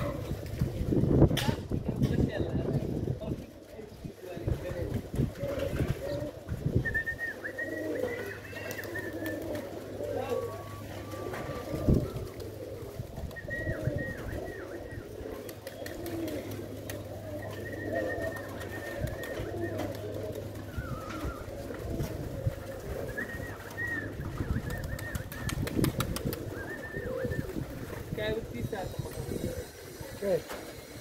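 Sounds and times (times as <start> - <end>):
pigeons cooing: 0.0 - 1.2, 2.1 - 31.0.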